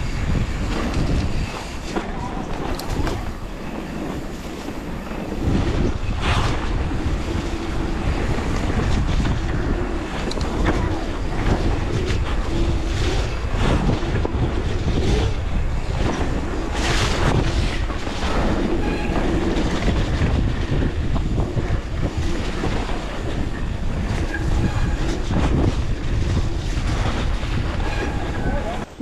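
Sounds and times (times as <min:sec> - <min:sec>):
bike tyres rumbling over dirt: 0:00.0 - 0:29.0
wind buffeting microphone: 0:00.0 - 0:29.0.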